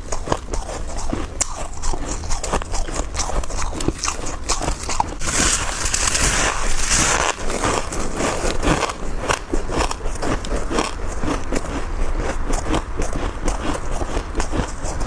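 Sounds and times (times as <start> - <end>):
chewing crunchy frost: 0.0 - 15.0.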